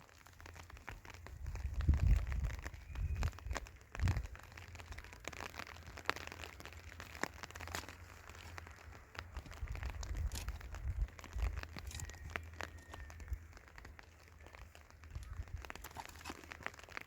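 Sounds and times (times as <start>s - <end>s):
plastic sheeting crinkling: 0.0s - 17.0s.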